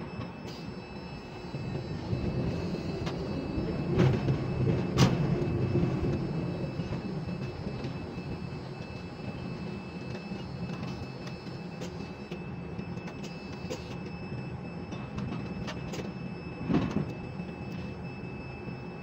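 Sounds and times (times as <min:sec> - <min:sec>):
crane hoist machinery running: 0:00.0 - 0:19.0.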